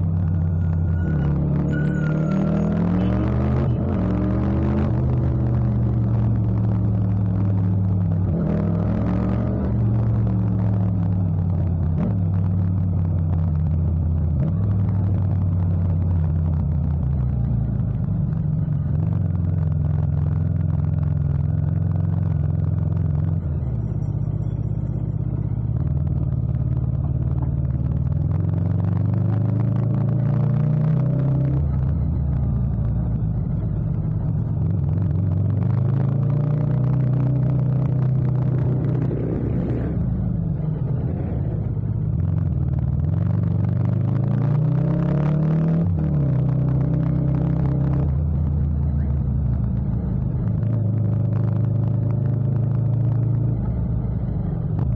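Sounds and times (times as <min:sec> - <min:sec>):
motorcycle engine running: 0:02.6 - 0:54.9.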